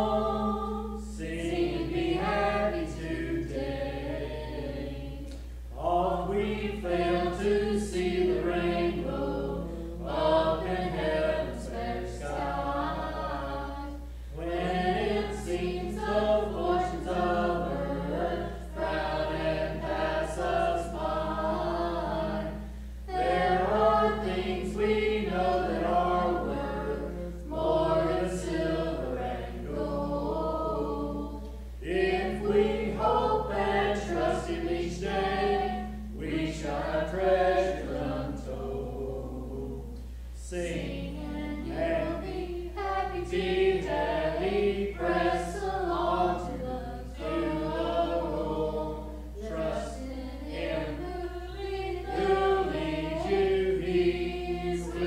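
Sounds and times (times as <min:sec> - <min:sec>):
congregation singing a hymn: 0:00.0 - 0:55.0
steady low hum: 0:00.0 - 0:55.0.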